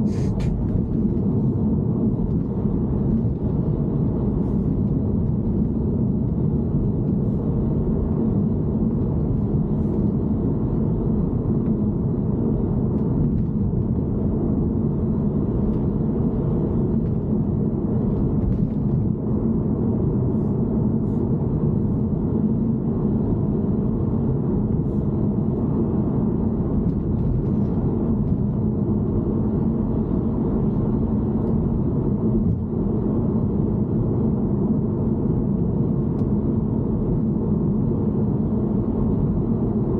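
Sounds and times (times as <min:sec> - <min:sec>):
car interior rumble: 0:00.0 - 0:39.9.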